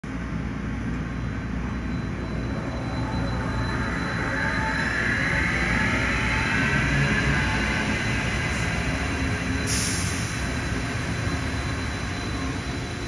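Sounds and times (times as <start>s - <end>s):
rising train whine: 0.0s - 13.0s
train low rumble: 0.0s - 13.0s.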